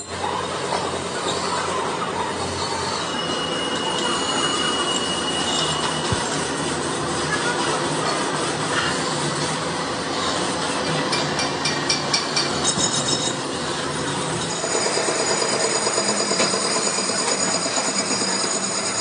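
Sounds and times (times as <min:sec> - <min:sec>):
metal lathe rumble: 0:00.0 - 0:19.0.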